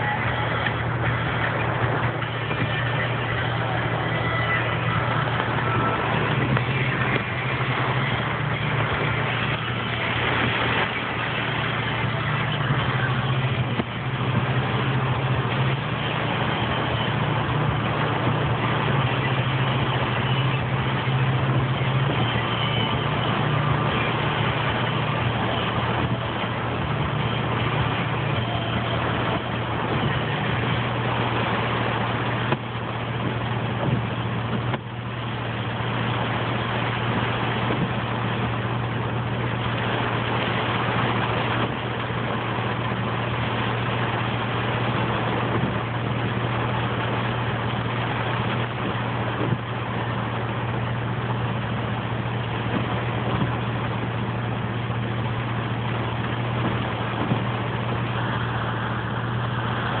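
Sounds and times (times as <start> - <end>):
engine idling hum: 0.0 - 60.0
heavy rain on vehicle roof: 0.0 - 60.0.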